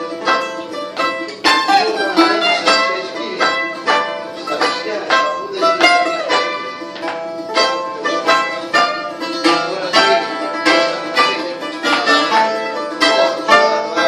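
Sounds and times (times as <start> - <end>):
plucked bouzouki melody: 0.0 - 14.0
strummed guitar chords: 0.0 - 14.0.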